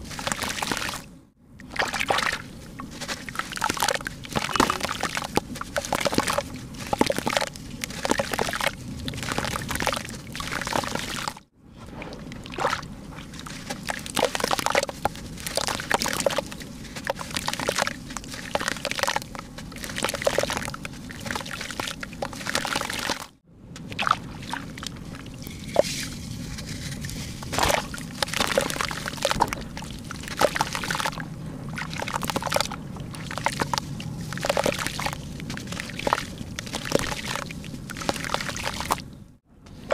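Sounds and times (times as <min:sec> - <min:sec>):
water sloshing and splashing: 0:00.0 - 0:39.2.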